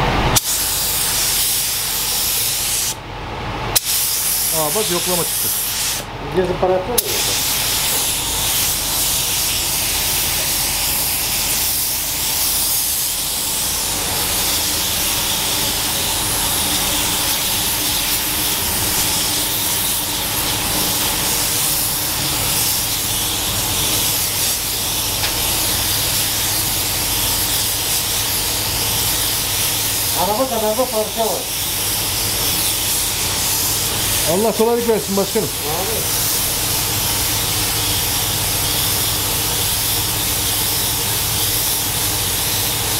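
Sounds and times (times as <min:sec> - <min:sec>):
spray gun air hiss: 0:00.4 - 0:03.0, 0:03.8 - 0:06.1, 0:07.0 - 0:42.9.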